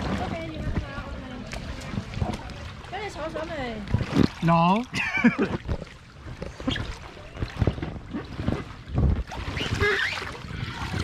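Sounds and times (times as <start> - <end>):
wind buffeting microphone: 0.0 - 4.4, 5.2 - 11.0
water splashing and sloshing: 0.0 - 11.0.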